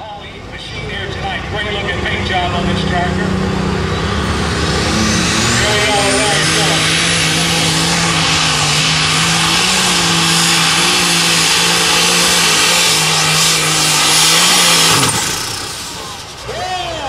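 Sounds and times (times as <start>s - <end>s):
tractor engine at full throttle: 0.0s - 17.0s.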